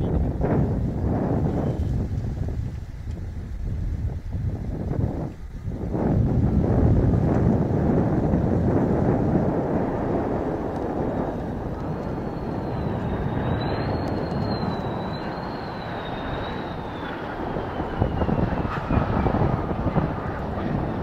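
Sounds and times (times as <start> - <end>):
jet engine rumble and whine: 0.0 - 21.0
wind buffeting microphone: 0.0 - 21.0.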